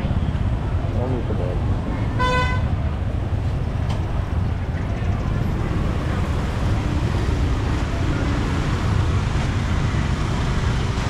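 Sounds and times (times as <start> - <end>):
motorbike traffic rumble: 0.0 - 11.0.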